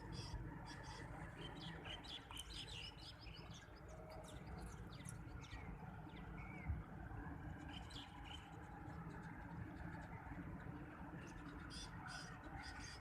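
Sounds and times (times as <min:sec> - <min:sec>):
small birds chirping: 0:00.0 - 0:06.8, 0:07.5 - 0:13.0.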